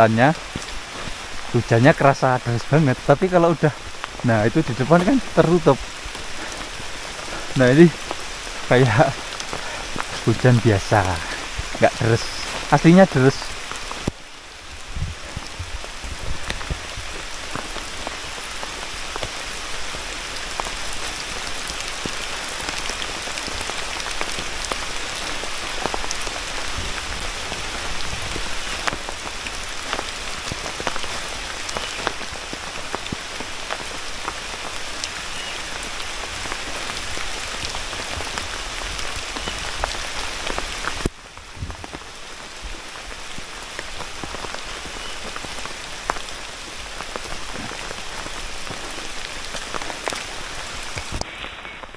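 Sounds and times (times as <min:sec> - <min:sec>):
heavy rain through forest canopy: 0:00.0 - 0:51.9
raindrops tapping close by: 0:00.0 - 0:51.9.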